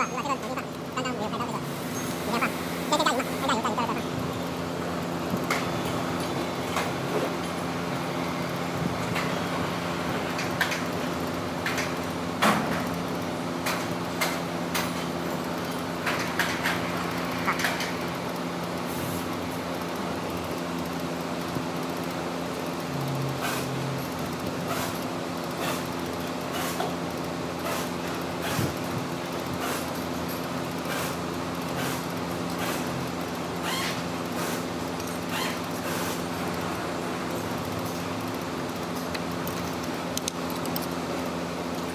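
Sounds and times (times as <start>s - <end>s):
workshop machinery hum: 0.0s - 41.9s.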